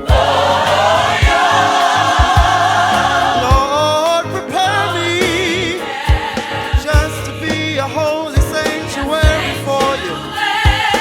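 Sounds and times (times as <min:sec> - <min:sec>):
gospel worship song with band: 0:00.0 - 0:11.0.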